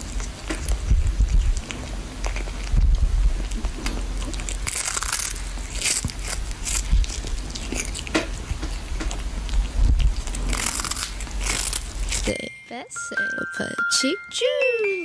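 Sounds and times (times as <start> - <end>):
cat chewing fish: 0.0 - 12.3
crisp crunches: 0.0 - 12.3.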